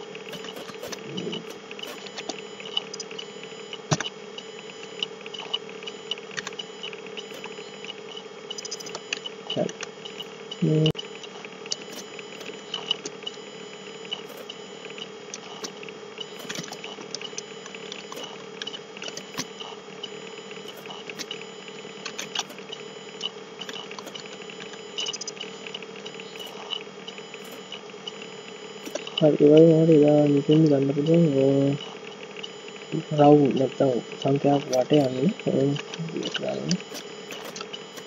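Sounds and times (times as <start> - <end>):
background hum and hiss: 0.0 - 38.0.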